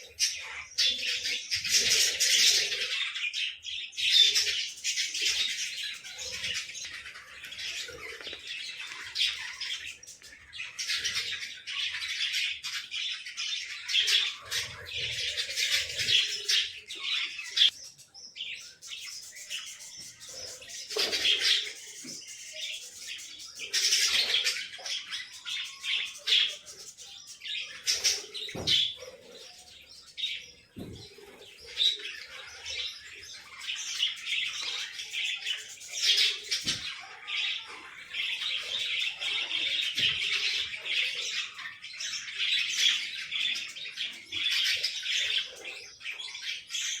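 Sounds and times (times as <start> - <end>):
cage birds chirping: 0.0 - 47.0.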